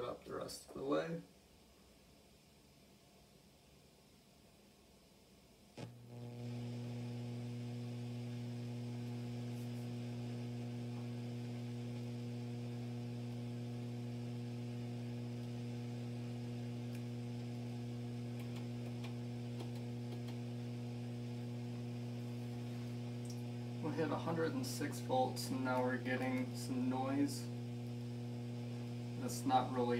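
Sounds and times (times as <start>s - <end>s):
amplifier hum: 5.7s - 29.9s.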